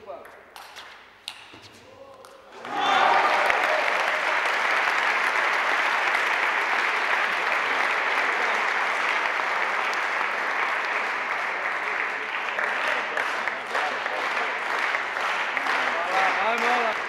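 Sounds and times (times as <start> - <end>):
audience clapping: 2.5 - 17.0.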